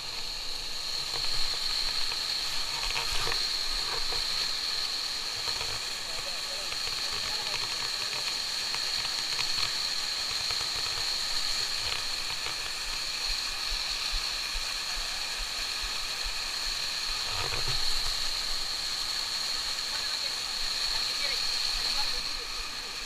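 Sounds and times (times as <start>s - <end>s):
high hiss: 0.0s - 23.0s
stream and waterfall rushing: 0.0s - 23.0s.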